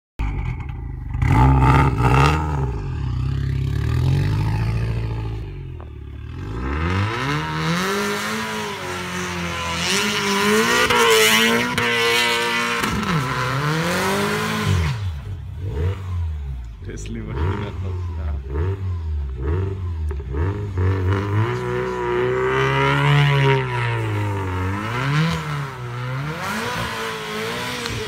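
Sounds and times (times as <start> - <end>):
car engine revving hard: 1.2 - 5.6, 6.2 - 28.0.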